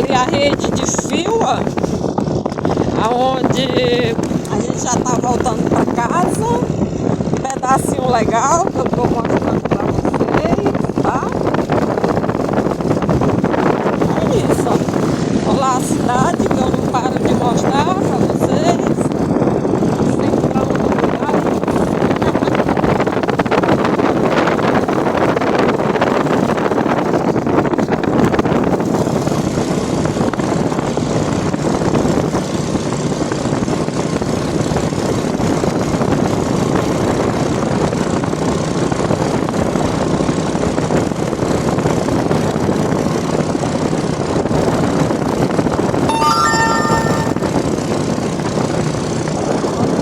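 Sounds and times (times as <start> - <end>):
car road and wind noise: 0.0 - 46.1, 47.6 - 50.0.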